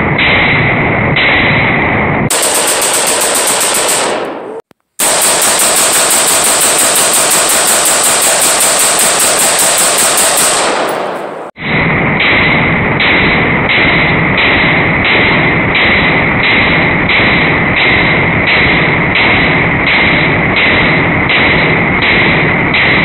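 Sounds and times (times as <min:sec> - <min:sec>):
rapid gunshots: 0:00.0 - 0:23.0.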